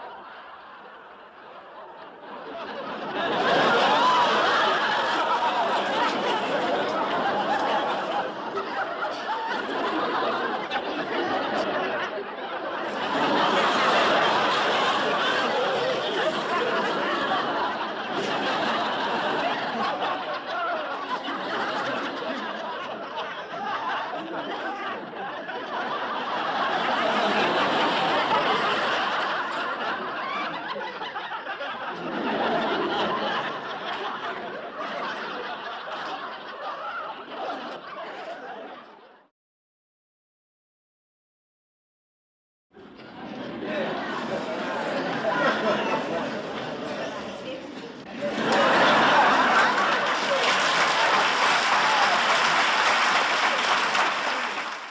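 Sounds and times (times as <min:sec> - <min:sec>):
crowd laughing: 0:00.0 - 0:39.3, 0:42.8 - 0:54.9.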